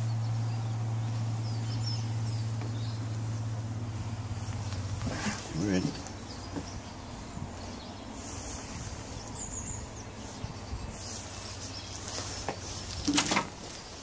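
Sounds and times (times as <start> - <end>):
bird chirp: 0.0 - 14.0
low outdoor background noise: 0.0 - 14.0.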